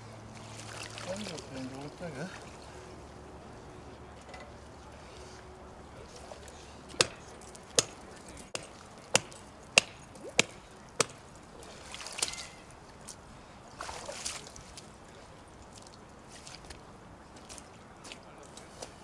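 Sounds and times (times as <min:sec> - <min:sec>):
water and ice sloshing: 0:00.3 - 0:02.8, 0:06.0 - 0:19.0.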